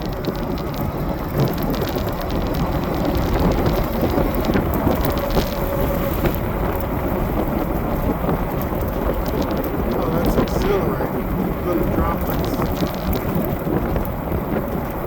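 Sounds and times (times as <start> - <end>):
low rain rumble: 0.0 - 15.0
raindrop ticks on microphone: 0.0 - 15.0.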